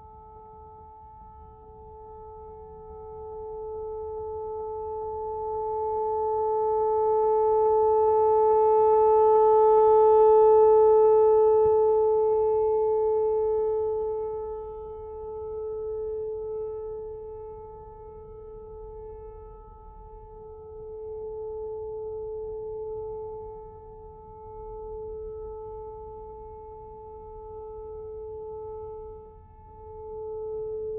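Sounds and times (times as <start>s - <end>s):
outdoor warning siren steady tone: 0.0s - 30.9s.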